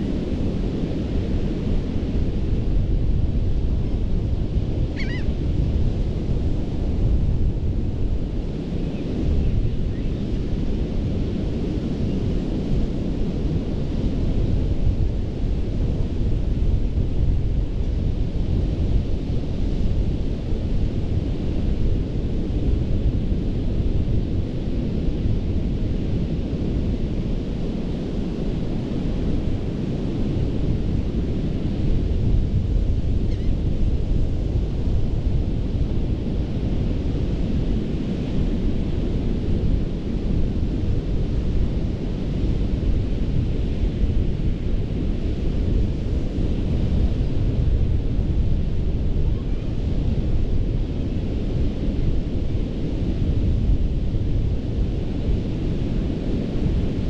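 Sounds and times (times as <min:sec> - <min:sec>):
wind buffeting microphone: 0:00.0 - 0:57.0
ocean surf on sand: 0:10.2 - 0:57.0.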